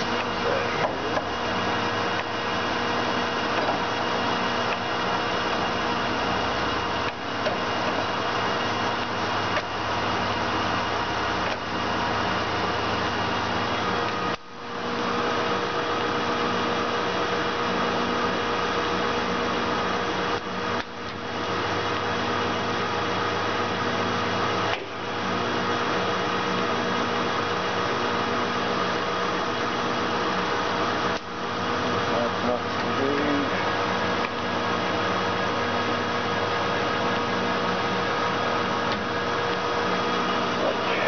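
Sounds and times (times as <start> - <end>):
lathe running with whining gears: 0.0 - 41.0.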